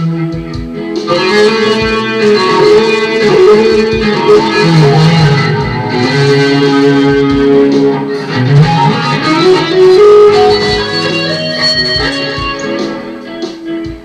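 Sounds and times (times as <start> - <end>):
electric guitar melody: 0.0 - 14.0.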